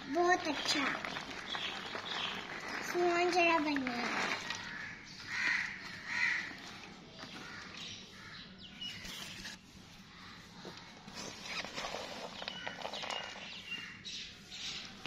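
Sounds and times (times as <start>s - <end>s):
harsh bird calls: 0.5s - 15.0s.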